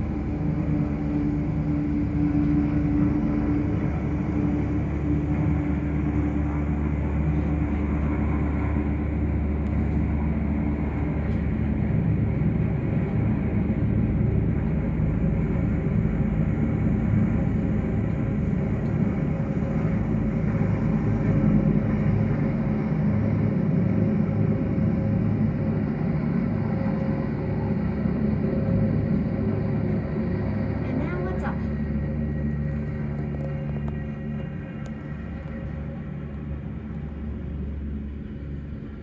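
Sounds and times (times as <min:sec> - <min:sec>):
helicopter rotors and turbines: 0:00.0 - 0:39.0.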